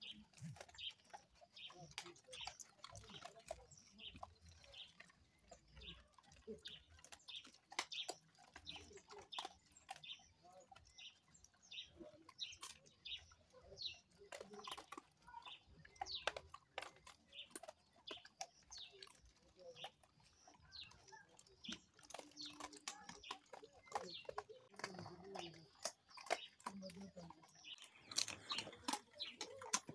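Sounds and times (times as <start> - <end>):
dogs chewing and crunching: 0.0 - 29.9.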